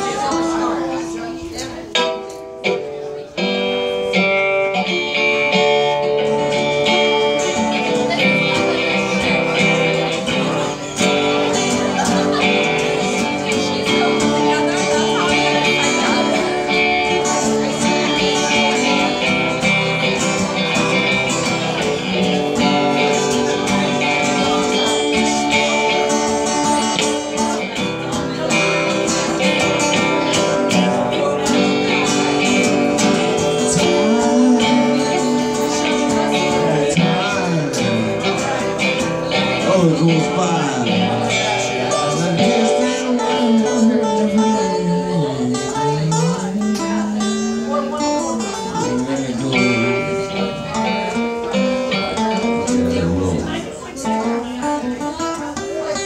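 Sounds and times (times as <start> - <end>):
live guitar music: 0.0 - 56.0.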